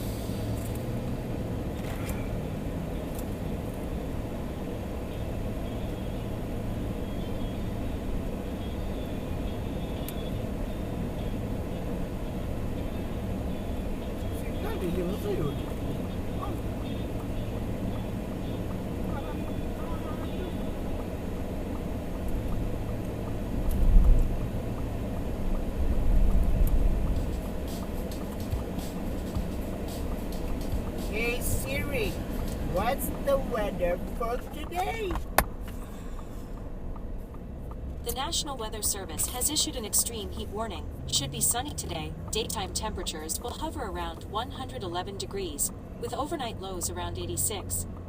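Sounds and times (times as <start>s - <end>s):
traffic rumble: 0.0s - 48.0s.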